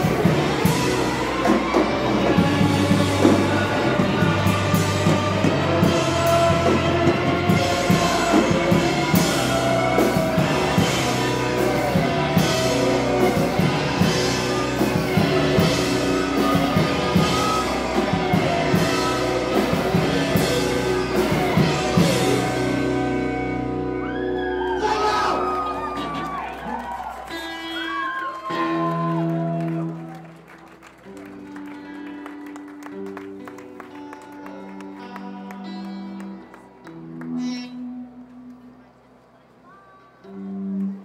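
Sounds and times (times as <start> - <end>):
rock band playing live: 0.0 - 38.5.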